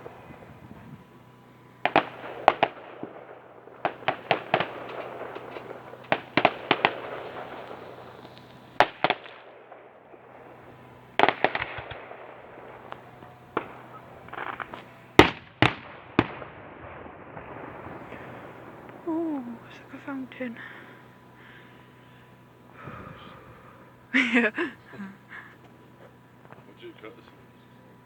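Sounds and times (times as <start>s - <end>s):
fireworks crackling and fizzing: 0.0s - 28.0s
firework bangs: 1.8s - 25.0s.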